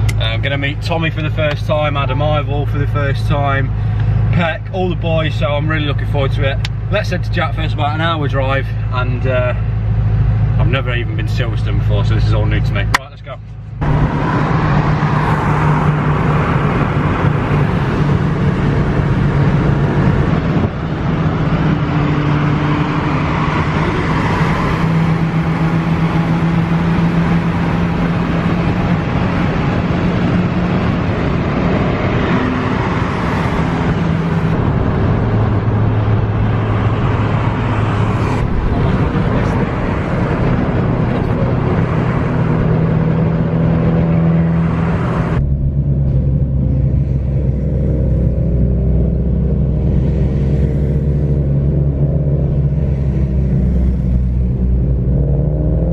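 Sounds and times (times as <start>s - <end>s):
car engine drone: 0.0s - 55.9s
road noise: 0.0s - 55.9s.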